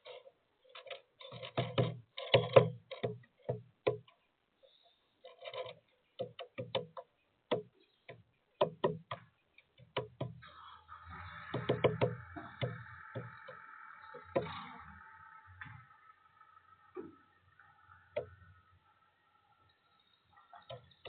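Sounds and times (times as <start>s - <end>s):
woodpecker tapping: 1.3s - 21.0s.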